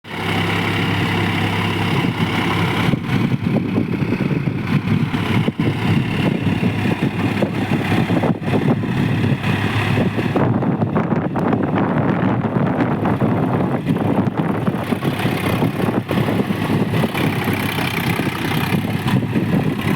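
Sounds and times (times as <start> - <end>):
tractor engine running: 0.1 - 19.9.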